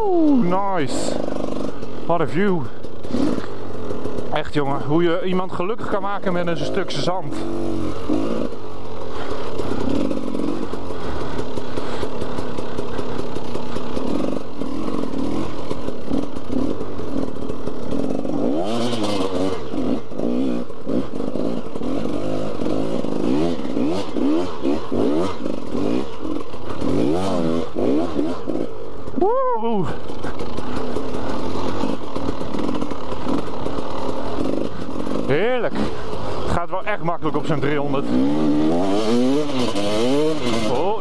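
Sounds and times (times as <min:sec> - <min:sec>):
two-stroke engine revving: 0:00.0 - 0:41.0.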